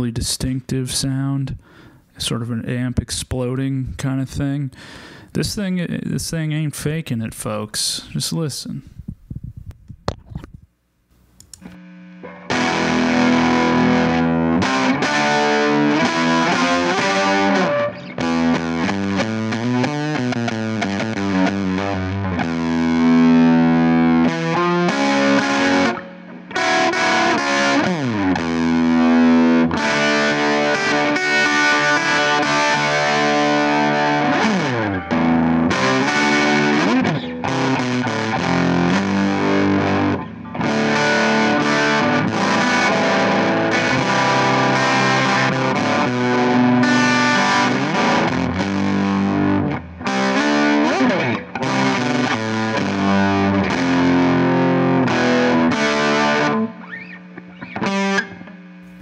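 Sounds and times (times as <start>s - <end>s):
overdriven electric guitar: 11.4s - 59.0s.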